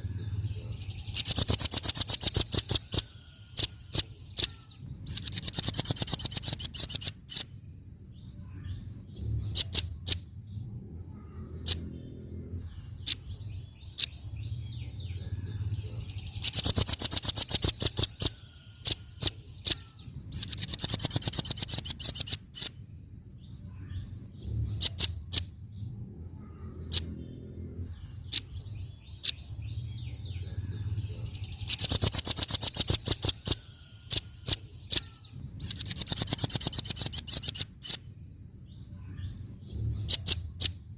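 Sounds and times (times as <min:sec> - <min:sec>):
bird ticking trills: 0:00.0 - 0:40.9.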